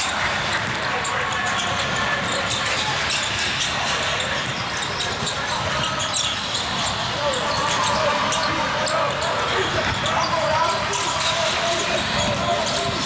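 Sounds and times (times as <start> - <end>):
voices in background: 0.0 - 13.0.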